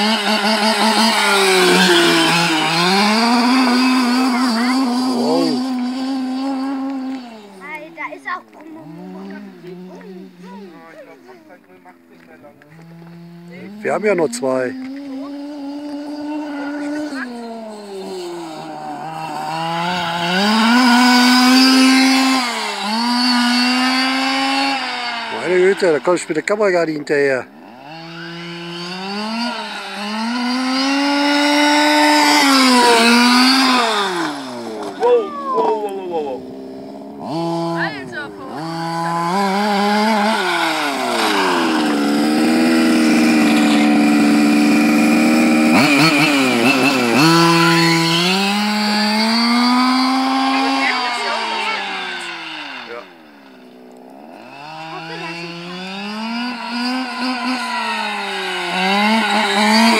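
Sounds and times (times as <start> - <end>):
rc truck two-stroke engine revving: 0.0 - 59.9.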